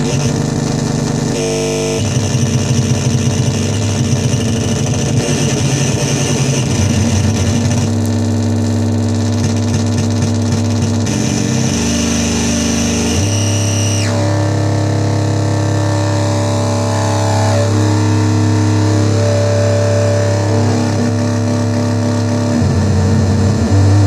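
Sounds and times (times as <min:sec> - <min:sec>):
loud low synth buzzing drone: 0:00.0 - 0:24.0.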